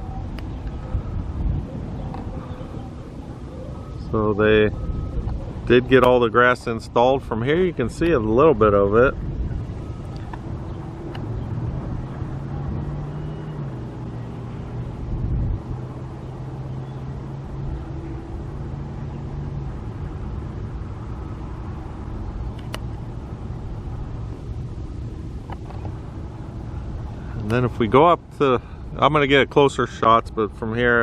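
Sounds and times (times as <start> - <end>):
low engine hum: 0.0 - 31.0
outdoor background noise: 0.0 - 31.0.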